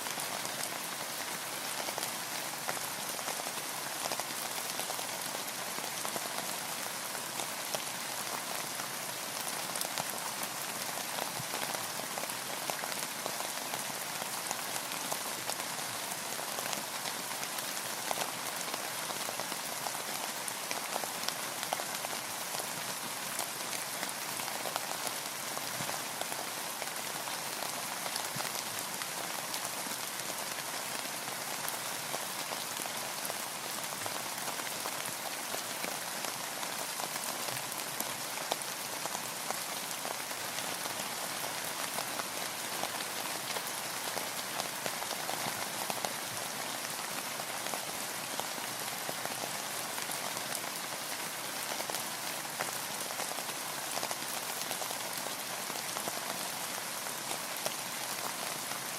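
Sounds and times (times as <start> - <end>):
rain falling on a boat: 0.0 - 58.9.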